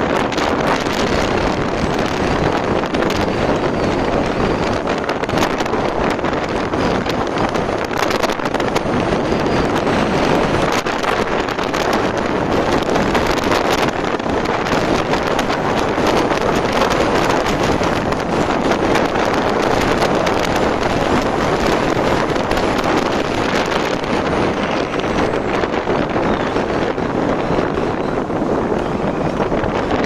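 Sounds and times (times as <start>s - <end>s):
motorcycle engine and road noise: 0.0s - 30.0s
wind buffeting microphone: 0.0s - 30.0s.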